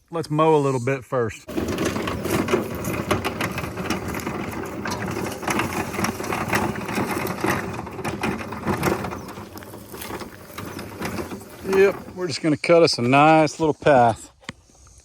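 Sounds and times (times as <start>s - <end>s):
electric mower motor rattling: 1.5s - 13.6s
tires clicking over ground: 1.5s - 13.7s.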